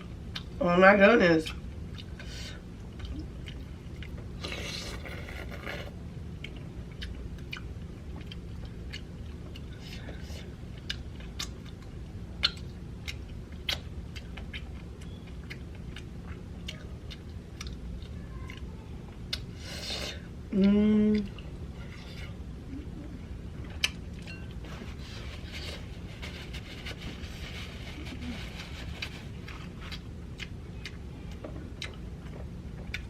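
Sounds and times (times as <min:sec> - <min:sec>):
low hum: 0:00.0 - 0:33.0
chewing and biting food: 0:01.4 - 0:22.5, 0:23.1 - 0:33.0.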